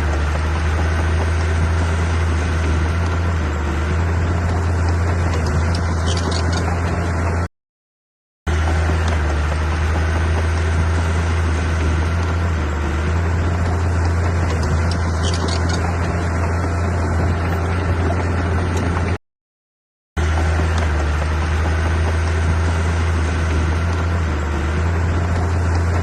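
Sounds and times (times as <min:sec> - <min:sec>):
heavy machinery engine droning: 0:00.0 - 0:07.5, 0:08.5 - 0:19.2, 0:20.2 - 0:26.0.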